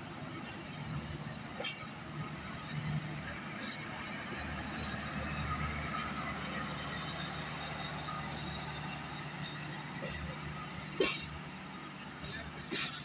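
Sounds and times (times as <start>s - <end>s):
passenger train rumble and hum: 0.0s - 13.0s.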